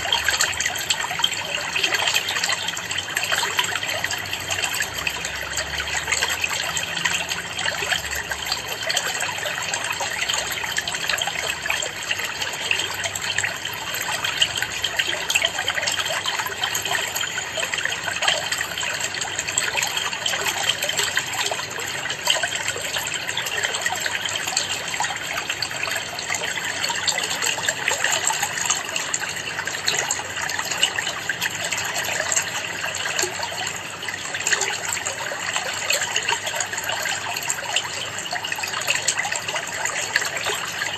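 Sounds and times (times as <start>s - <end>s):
aquarium water trickling: 0.0s - 40.9s.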